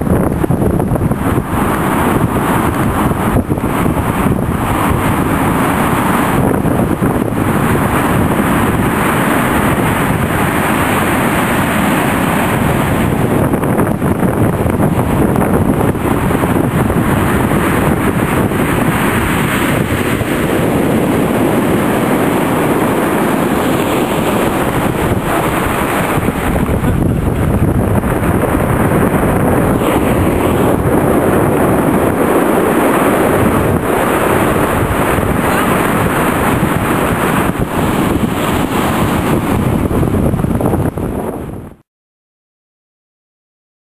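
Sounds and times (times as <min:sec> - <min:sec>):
heavy surf breaking on cobbles: 0:00.0 - 0:41.8
wind buffeting microphone: 0:00.0 - 0:41.8.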